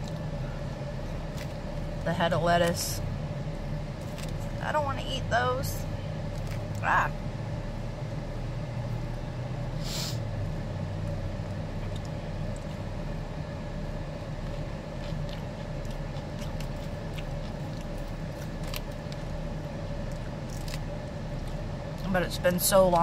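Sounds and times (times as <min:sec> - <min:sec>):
car engine and fan hum: 0:00.0 - 0:23.0.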